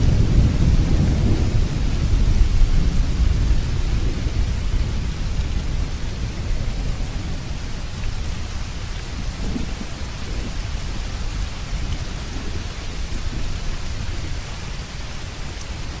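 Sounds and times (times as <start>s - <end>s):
low rolling thunder: 0.0s - 15.0s
heavy rain: 0.0s - 16.0s.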